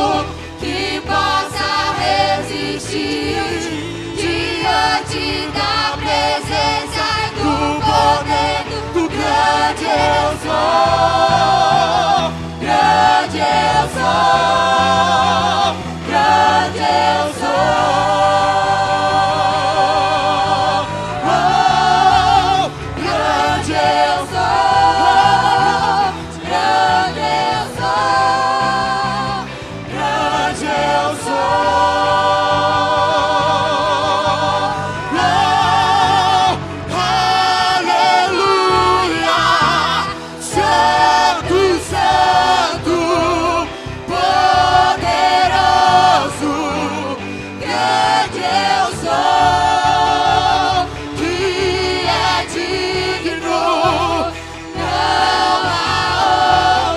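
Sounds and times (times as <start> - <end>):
choir singing gospel song: 0.0 - 56.9
instrumental accompaniment: 0.0 - 56.9.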